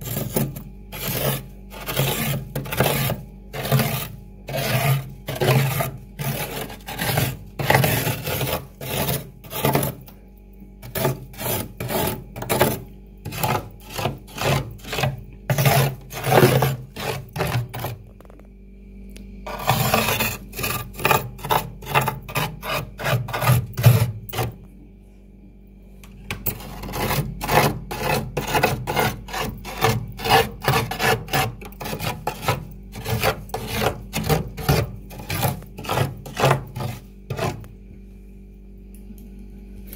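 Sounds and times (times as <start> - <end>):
spoon scraping frost: 0.0 - 10.1, 10.8 - 18.1, 19.5 - 24.6, 26.3 - 37.7.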